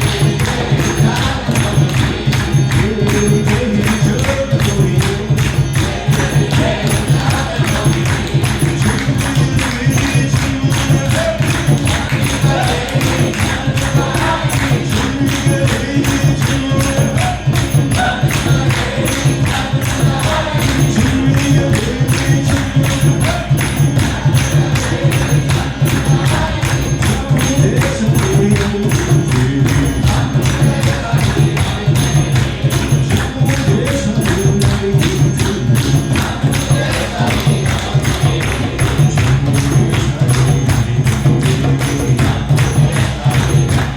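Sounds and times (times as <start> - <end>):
jingling percussion: 0.0 - 43.9
voices chanting a melody: 0.0 - 43.9.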